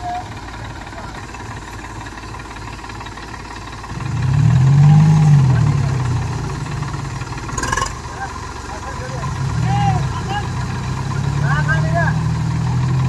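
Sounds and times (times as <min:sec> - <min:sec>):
tractor diesel engine idling and revving: 0:00.0 - 0:13.0.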